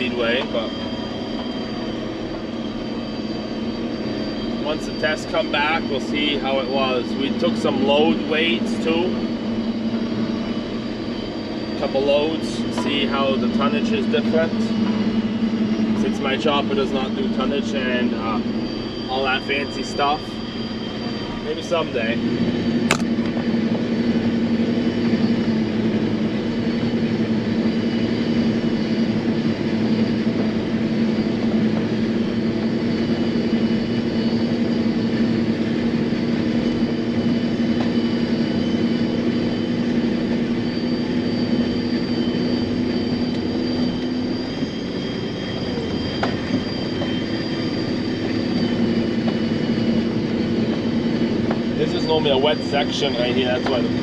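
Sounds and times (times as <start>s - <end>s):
faint high whine: 0.0s - 54.0s
harvester machine drone: 0.0s - 54.0s.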